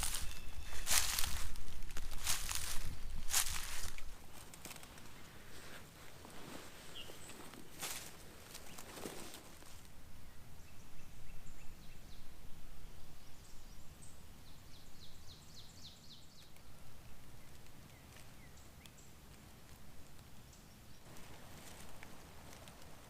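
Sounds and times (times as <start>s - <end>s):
songbirds singing: 0.0s - 6.2s, 6.8s - 23.0s
low rumble of wind: 0.0s - 23.0s.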